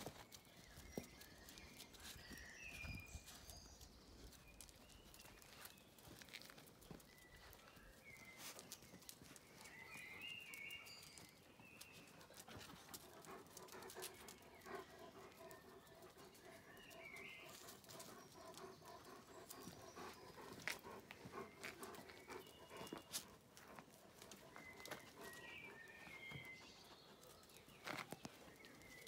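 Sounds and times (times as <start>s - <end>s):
paws scuffling on concrete: 0.0s - 29.0s.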